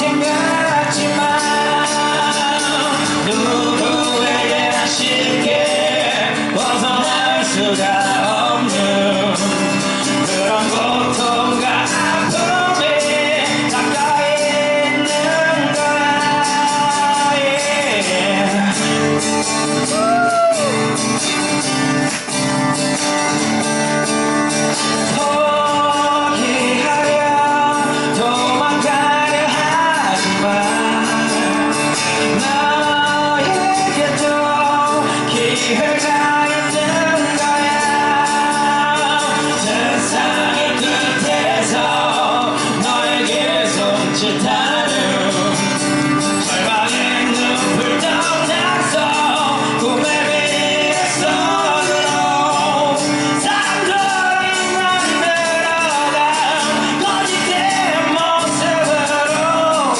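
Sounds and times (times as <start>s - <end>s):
two men singing: 0.0s - 21.0s, 24.7s - 59.9s
strummed acoustic guitar: 0.0s - 59.9s.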